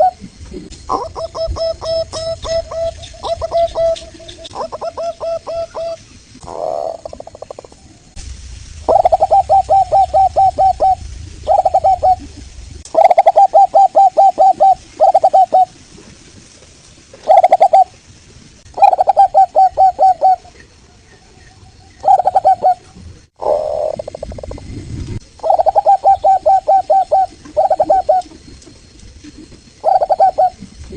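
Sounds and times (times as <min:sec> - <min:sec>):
dove cooing: 0:00.0 - 0:07.8, 0:08.9 - 0:15.8, 0:17.2 - 0:18.0, 0:18.8 - 0:20.7, 0:22.0 - 0:24.7, 0:25.4 - 0:28.6, 0:29.2 - 0:30.9.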